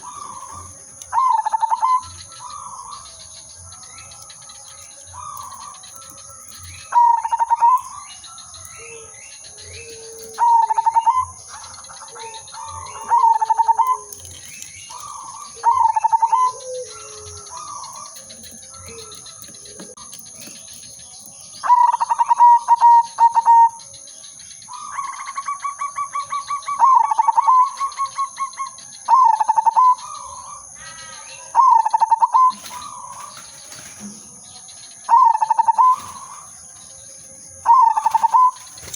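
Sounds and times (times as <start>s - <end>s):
doves cooing: 0.0s - 23.9s, 24.7s - 38.9s
bird chirps: 0.0s - 38.9s.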